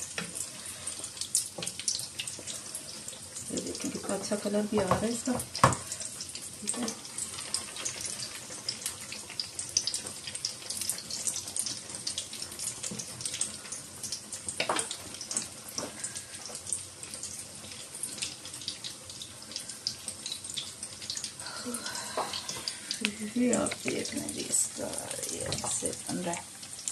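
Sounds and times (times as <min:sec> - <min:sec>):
potato cutlets sizzling in oil: 0:00.0 - 0:26.9.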